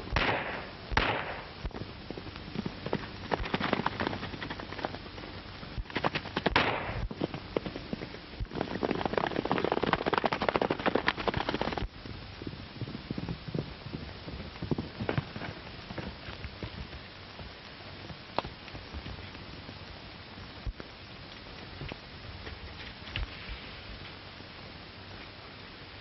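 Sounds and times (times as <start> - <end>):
horses galloping: 0.0 - 24.0.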